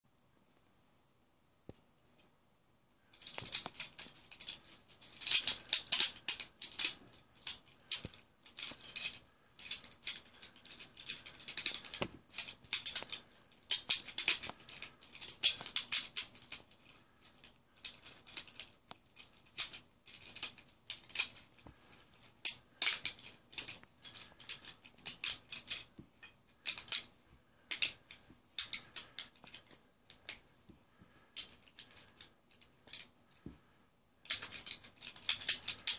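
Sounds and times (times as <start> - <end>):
plastic puzzle pieces clicking: 3.2 - 30.4, 31.0 - 33.4, 34.2 - 35.9.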